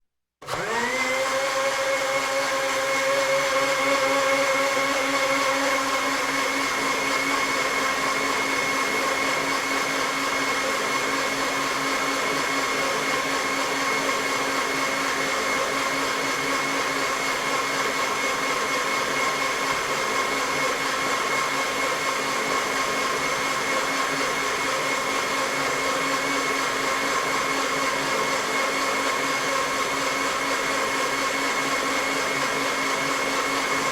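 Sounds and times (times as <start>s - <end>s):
blender motor whining: 0.4s - 33.9s.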